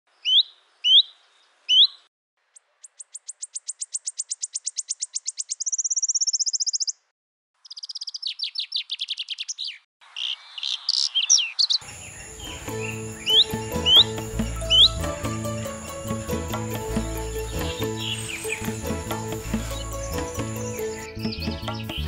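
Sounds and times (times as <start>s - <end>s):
birds singing: 0.1s - 7.0s, 7.6s - 22.0s.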